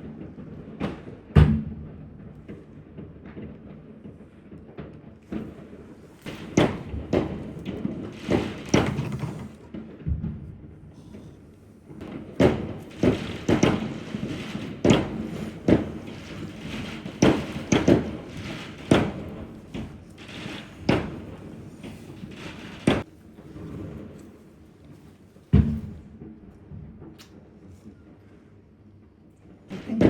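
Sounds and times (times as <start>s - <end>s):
fireworks and firecrackers banging: 0.0s - 30.0s.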